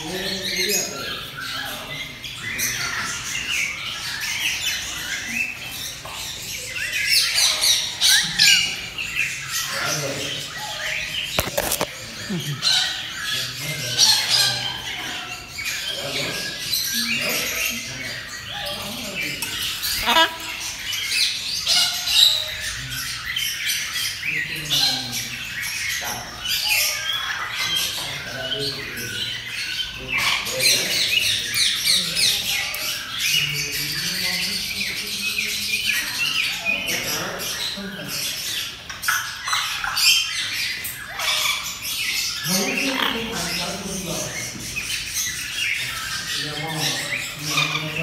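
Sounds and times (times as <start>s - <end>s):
birds chirping and squawking: 0.0s - 48.0s.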